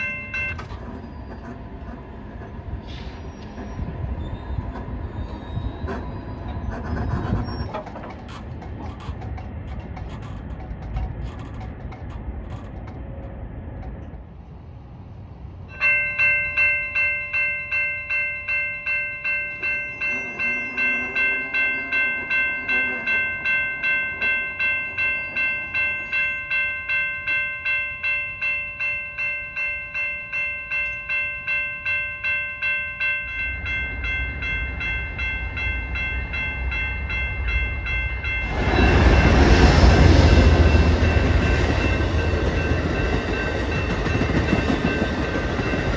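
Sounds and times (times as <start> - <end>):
railroad crossing bell ringing: 0.0 - 7.8, 15.6 - 45.9
diesel locomotive passing: 0.0 - 45.9
train rumble: 0.0 - 45.9.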